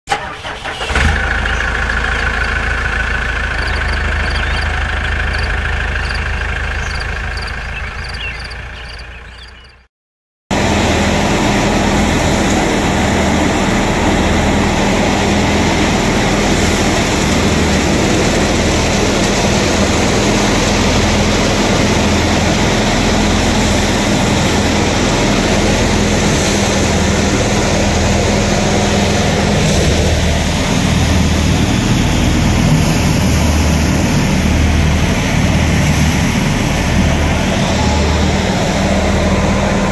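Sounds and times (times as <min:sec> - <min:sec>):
wheat thresher running: 0:00.1 - 0:08.8, 0:10.5 - 0:39.9.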